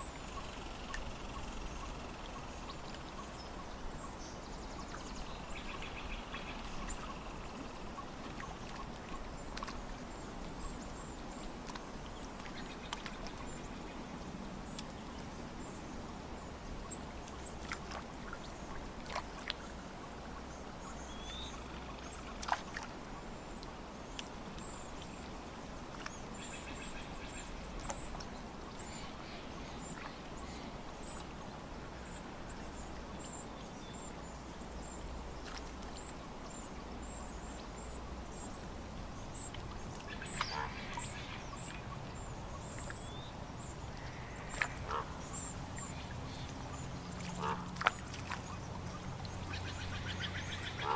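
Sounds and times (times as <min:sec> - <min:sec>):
soft wash of water: 0:00.0 - 0:50.9
small lapping splashes: 0:04.7 - 0:33.4, 0:35.2 - 0:36.6, 0:39.0 - 0:50.9.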